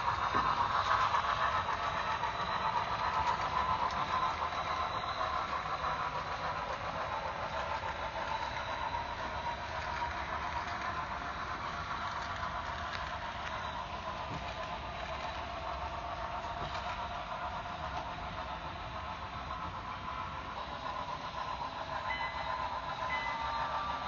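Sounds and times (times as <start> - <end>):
model train rolling on track: 0.0 - 24.0.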